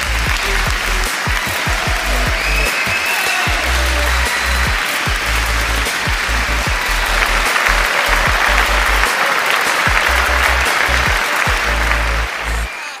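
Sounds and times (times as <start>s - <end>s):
applause: 0.0s - 13.0s.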